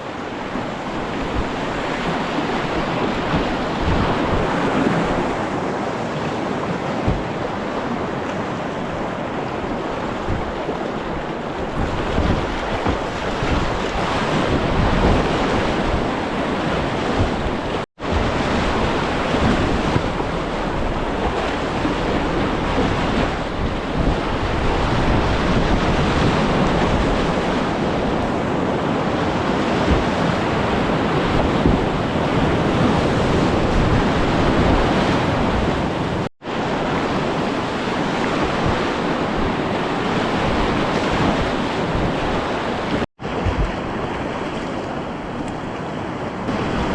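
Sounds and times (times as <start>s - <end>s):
whitewater rushing: 0.0s - 45.5s
wind buffeting microphone: 0.0s - 46.9s.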